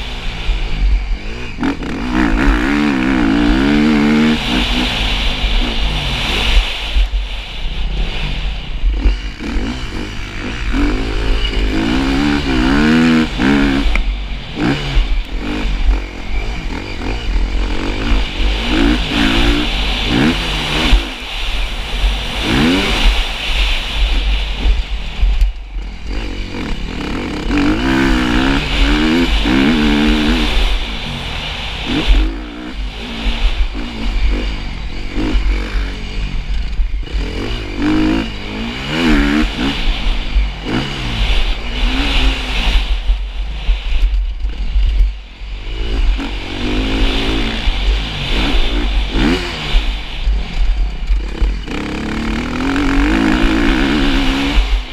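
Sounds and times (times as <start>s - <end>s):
motocross motorcycle engine revving: 0.0s - 54.9s.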